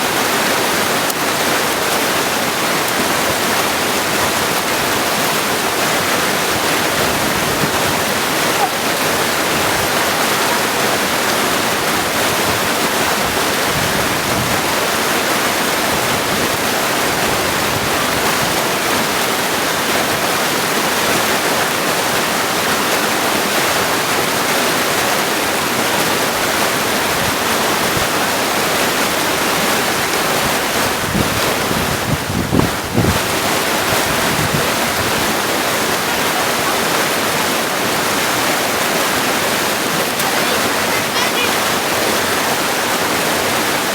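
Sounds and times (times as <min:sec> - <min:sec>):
creek rushing over stones: 0:00.0 - 0:43.9.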